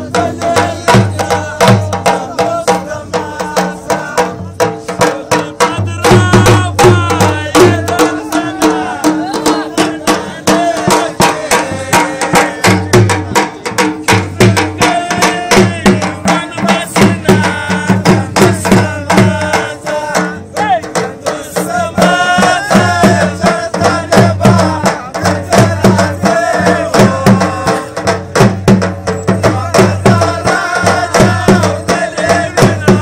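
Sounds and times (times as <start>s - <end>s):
dhol drum beating: 0.0s - 33.0s.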